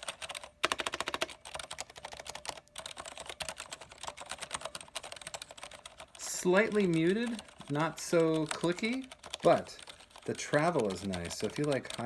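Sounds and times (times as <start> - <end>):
rapid mechanical keyboard typing: 0.0 - 12.0.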